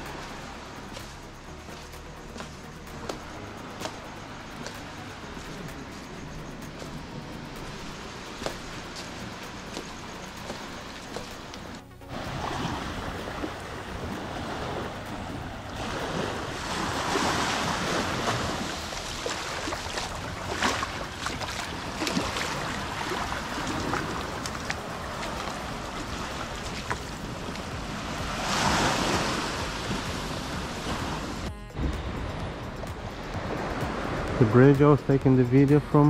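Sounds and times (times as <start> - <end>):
ocean waves breaking: 0.0 - 36.0.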